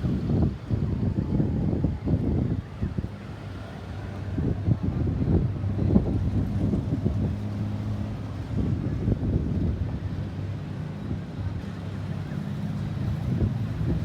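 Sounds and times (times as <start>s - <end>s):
road rumble: 0.0s - 14.0s
wind buffeting microphone: 0.0s - 14.0s.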